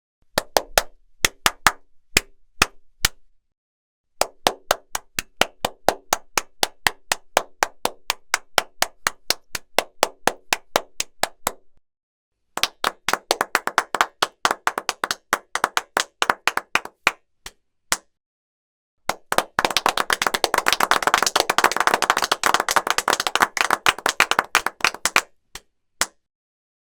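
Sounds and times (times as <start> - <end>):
hand clapping: 0.4 - 3.2, 4.2 - 11.6, 12.6 - 18.1, 19.1 - 26.3.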